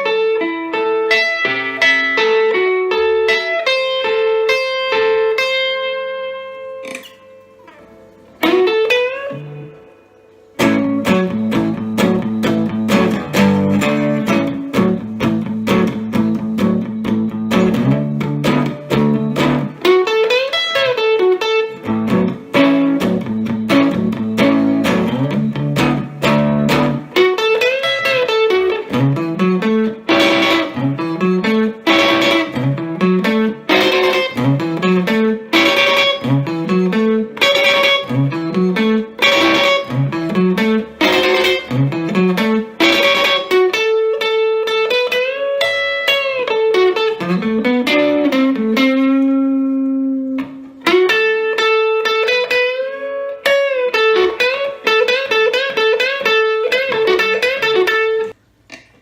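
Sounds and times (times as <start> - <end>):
electric guitar riffs: 0.0 - 58.4.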